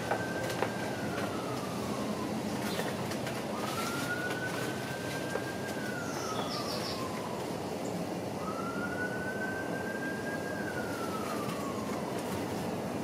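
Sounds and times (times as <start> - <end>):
distant siren wailing: 0.0 - 13.0.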